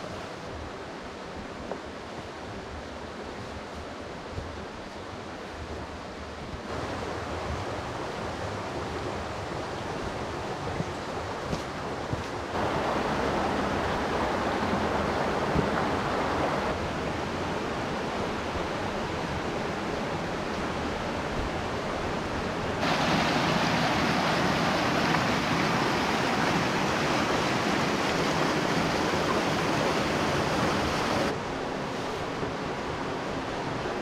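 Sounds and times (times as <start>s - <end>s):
creek water rushing over rocks: 0.0s - 34.0s.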